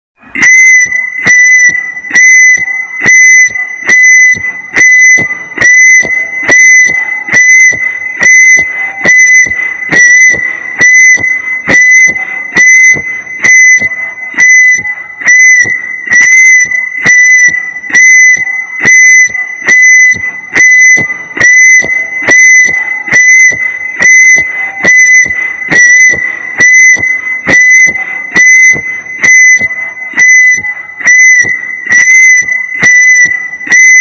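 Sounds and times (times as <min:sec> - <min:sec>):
high-pitched alarm beeps: 0:00.2 - 0:34.0.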